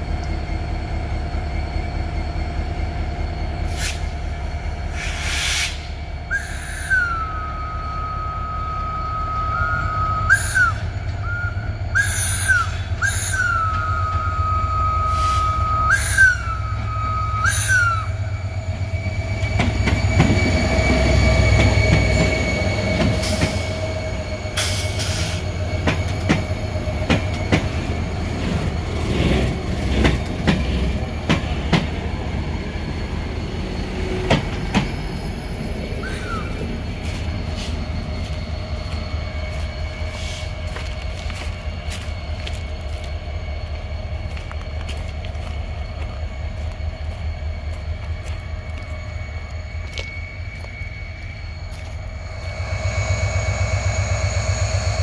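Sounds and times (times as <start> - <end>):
diesel locomotive engine rumbling: 0.0 - 55.0
steady high train tone with swoops: 0.0 - 55.0.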